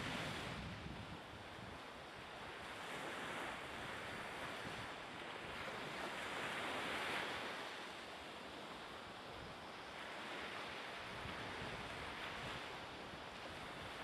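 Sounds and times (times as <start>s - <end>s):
sea waves and spray: 0.0s - 14.0s
wind: 0.0s - 14.0s.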